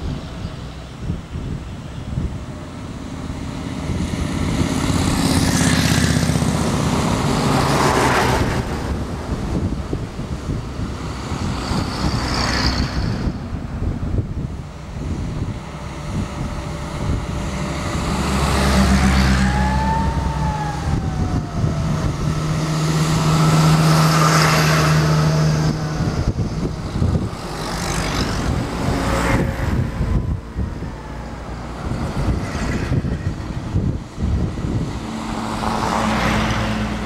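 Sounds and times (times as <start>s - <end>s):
military vehicles driving past: 0.0s - 37.0s
tyre and road noise: 0.0s - 37.0s.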